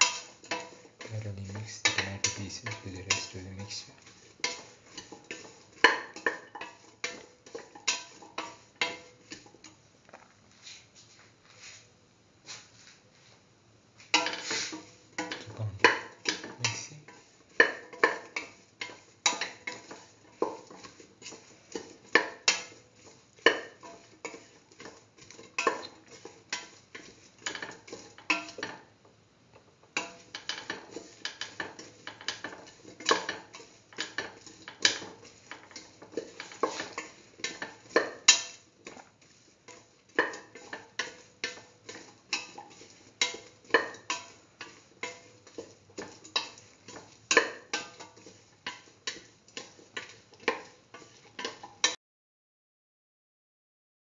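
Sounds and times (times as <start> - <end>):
spatula scraping a pan: 0.0 - 9.8, 10.5 - 13.3, 14.0 - 28.9, 29.8 - 52.0.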